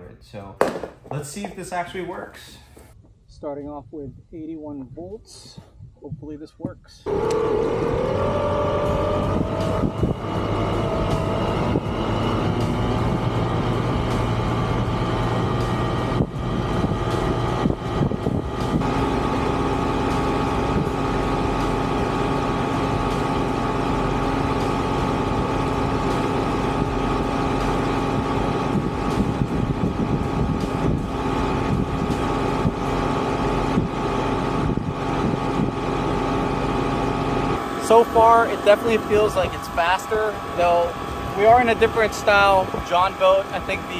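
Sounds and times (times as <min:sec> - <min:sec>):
electric outboard motor whine: 0:07.1 - 0:43.9.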